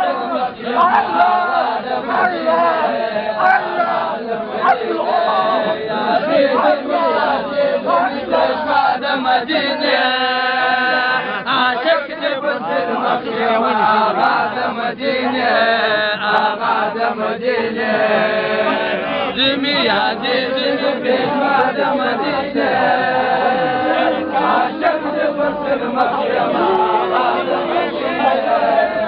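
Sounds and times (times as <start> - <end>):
crowd chanting devotional refrain: 0.0 - 29.0.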